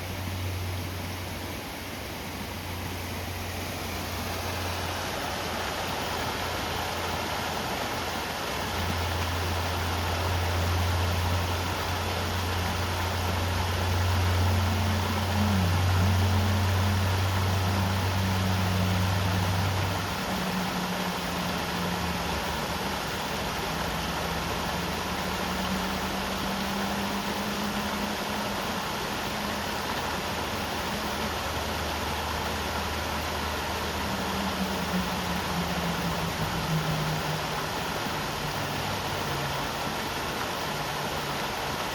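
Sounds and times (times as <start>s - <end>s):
faint wavering tone: 0.0s - 41.6s
low engine hum: 0.0s - 41.9s
river water rushing: 0.0s - 41.9s.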